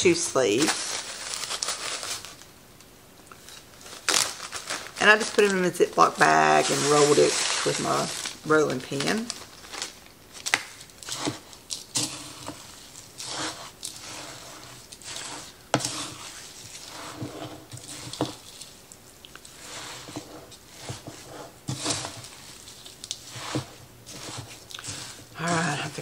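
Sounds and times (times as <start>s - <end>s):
spatula scraping and squishing: 3.3s - 9.9s, 10.5s - 26.0s.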